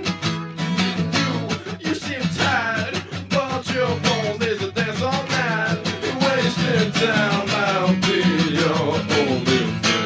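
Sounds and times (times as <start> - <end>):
song with vocals and strummed guitar: 0.0 - 10.0.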